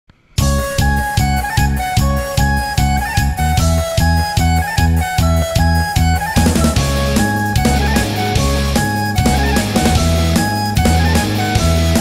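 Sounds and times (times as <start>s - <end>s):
music with driving beat: 0.4s - 12.0s.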